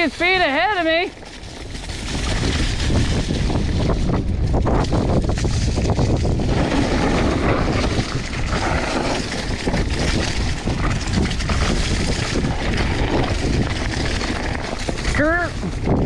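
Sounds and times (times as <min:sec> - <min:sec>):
bike ticking and rattling: 0:00.0 - 0:16.0
tyres crackling through dry leaves: 0:00.0 - 0:16.0
wind buffeting microphone: 0:00.0 - 0:16.0.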